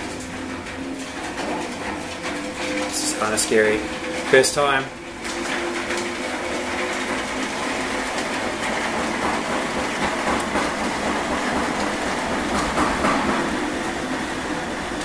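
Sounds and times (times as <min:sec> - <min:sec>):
honey extractor motor spinning: 0:00.0 - 0:15.0.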